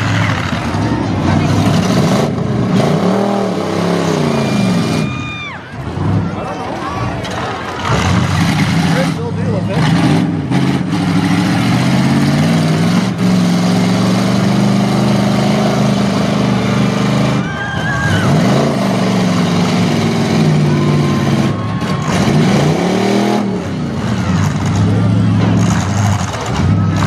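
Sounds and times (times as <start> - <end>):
truck engines revving hard: 0.0 - 27.0.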